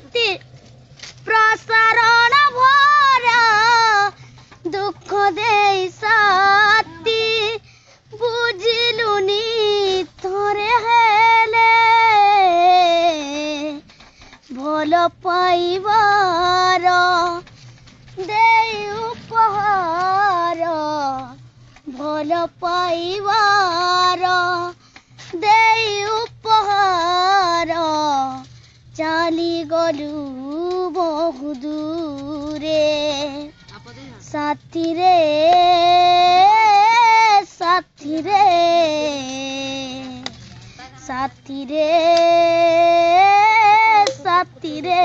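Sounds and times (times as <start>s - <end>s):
boy singing: 1.2s - 13.8s, 14.5s - 17.4s, 18.2s - 28.4s, 29.0s - 45.0s.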